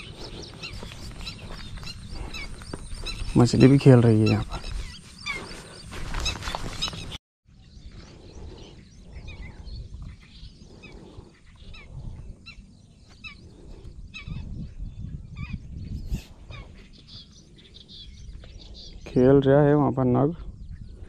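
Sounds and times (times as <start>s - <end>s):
small birds chirping: 0.0s - 21.0s
wind rumble on microphone: 0.0s - 21.0s.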